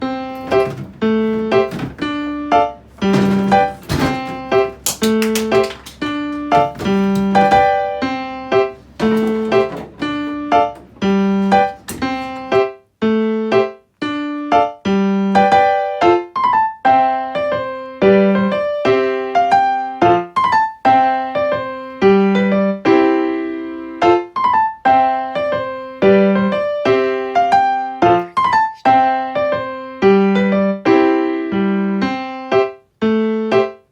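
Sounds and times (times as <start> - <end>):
light keyboard melody: 0.0 - 33.9.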